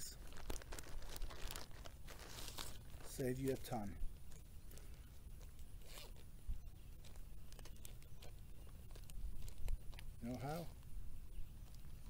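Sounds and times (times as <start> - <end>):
plastic crinkling: 0.0 - 12.0.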